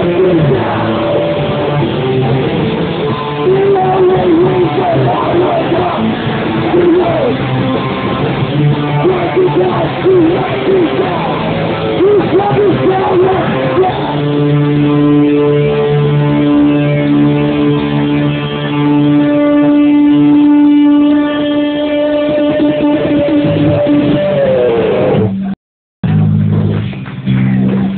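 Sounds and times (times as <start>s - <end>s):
distorted electric guitar: 0.0s - 27.9s
hardcore band playing live: 0.0s - 27.9s.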